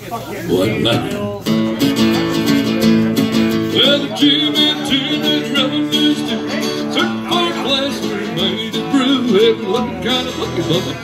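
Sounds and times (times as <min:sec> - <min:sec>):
acoustic guitar strumming: 0:00.5 - 0:11.0
person singing: 0:00.5 - 0:11.0.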